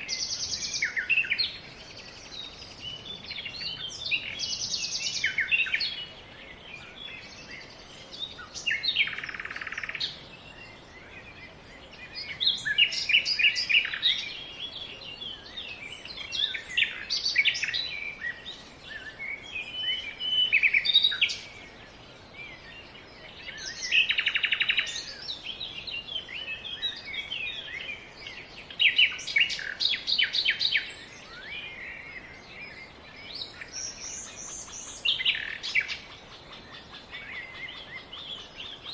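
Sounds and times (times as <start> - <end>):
faint outdoor hiss: 0.0 - 38.9
songbirds chirping and trilling: 0.0 - 38.9.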